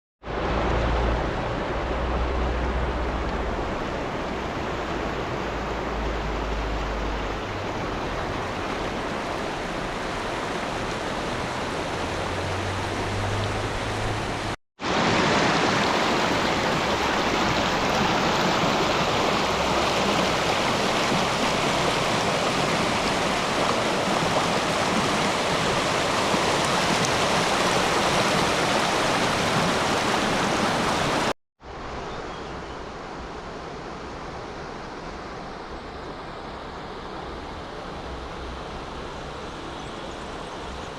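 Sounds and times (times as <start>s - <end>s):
stream water rushing: 0.2s - 40.9s.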